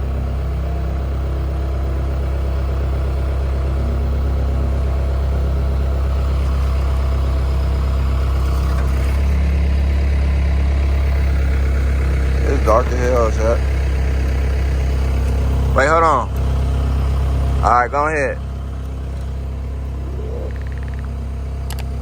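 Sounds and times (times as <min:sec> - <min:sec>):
motor idling hum: 0:00.0 - 0:22.0.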